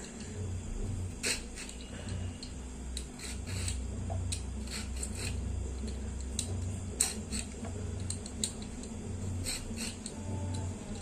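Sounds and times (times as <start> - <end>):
low steady hum: 0.0 - 11.0
peeler scraping gourd skin: 1.1 - 11.0.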